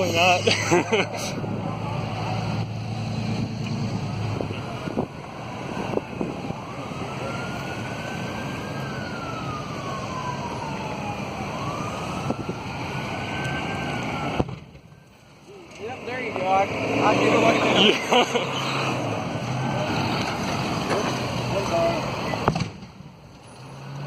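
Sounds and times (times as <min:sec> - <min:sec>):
emergency siren wailing: 0:01.0 - 0:22.5.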